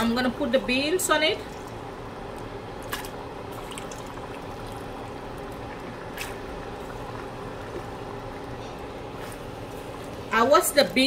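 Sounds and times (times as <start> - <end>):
liquid sloshing in a pot: 1.4 - 11.0.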